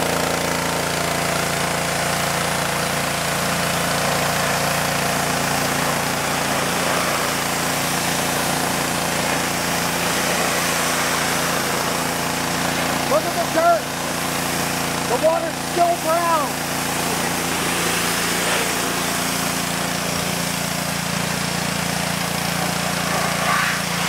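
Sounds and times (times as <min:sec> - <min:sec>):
pressure washer engine running: 0:00.0 - 0:24.0
water jet hissing on metal: 0:03.9 - 0:24.0.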